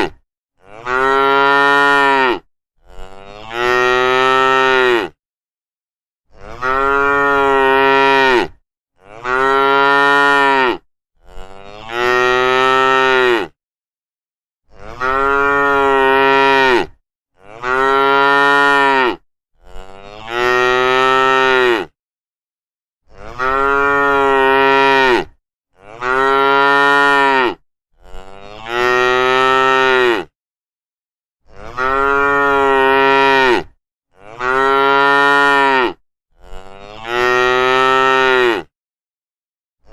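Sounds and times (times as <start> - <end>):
cows mooing: 0.6 - 5.2, 6.4 - 13.5, 14.8 - 21.9, 23.2 - 30.3, 31.6 - 38.7.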